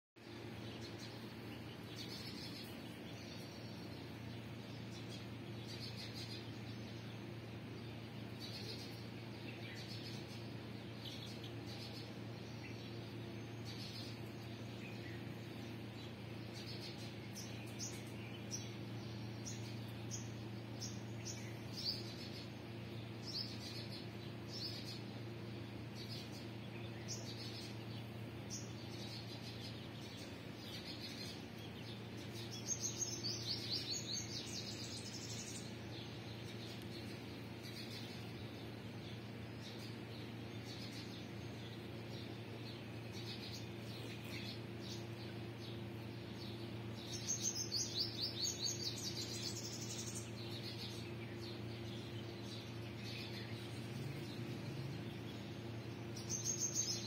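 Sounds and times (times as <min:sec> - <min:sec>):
small birds chirping: 0:00.2 - 0:57.0
steady low hum: 0:00.2 - 0:57.0.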